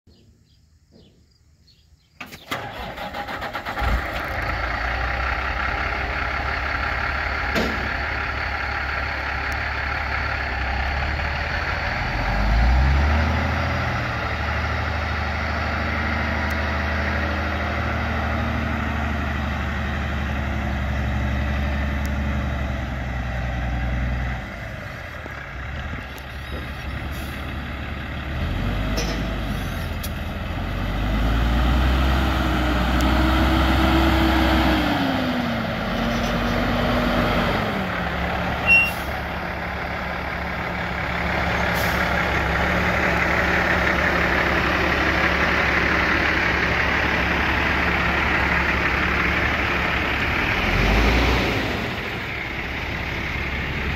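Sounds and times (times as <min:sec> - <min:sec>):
diesel truck engine: 0:02.1 - 0:53.9.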